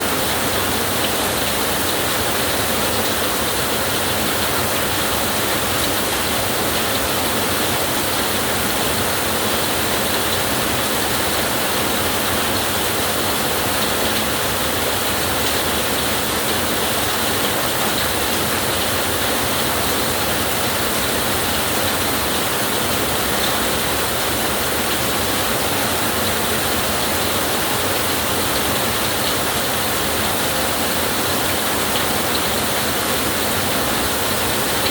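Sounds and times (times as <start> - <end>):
heavy rainfall: 0.0 - 34.9.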